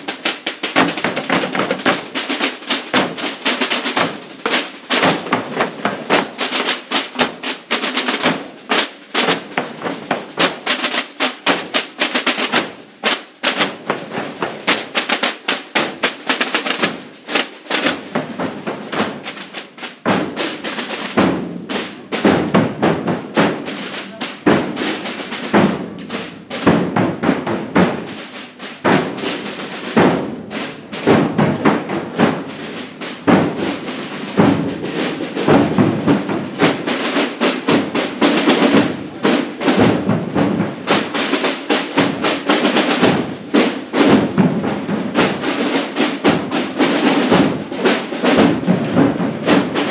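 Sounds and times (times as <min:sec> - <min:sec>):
marching snare drums with rolls: 0:00.0 - 0:49.9.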